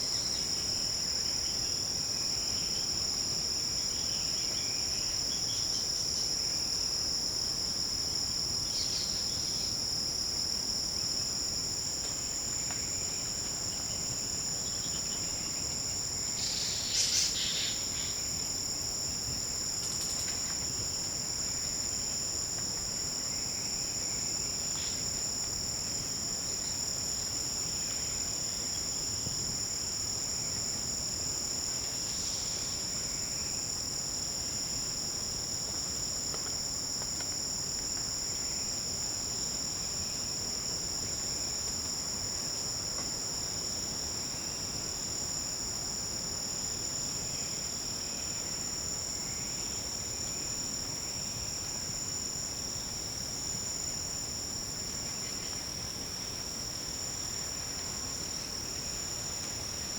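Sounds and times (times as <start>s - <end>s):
forest insects trilling: 0.0s - 59.9s.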